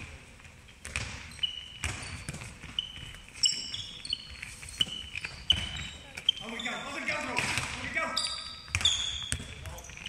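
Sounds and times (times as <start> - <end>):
balls bouncing on wooden floor: 0.0 - 6.6, 7.2 - 10.0
sneakers squeaking: 0.0 - 10.0.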